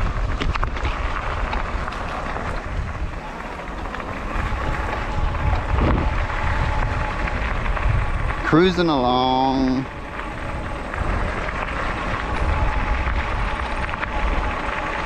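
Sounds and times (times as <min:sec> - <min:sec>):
faint motor whine: 0:00.0 - 0:15.0
tyre noise on wet road: 0:00.0 - 0:15.0
wind rushing over microphone: 0:00.0 - 0:15.0.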